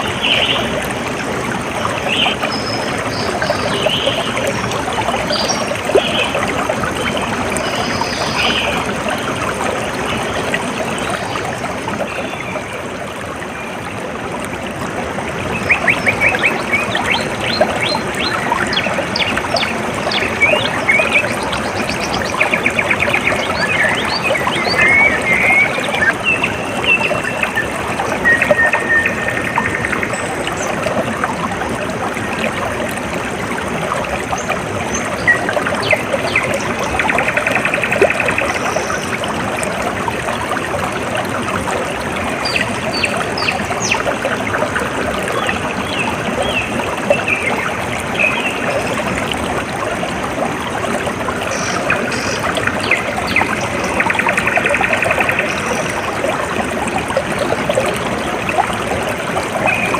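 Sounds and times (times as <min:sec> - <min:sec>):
water trickling and babbling: 0:00.0 - 0:59.9.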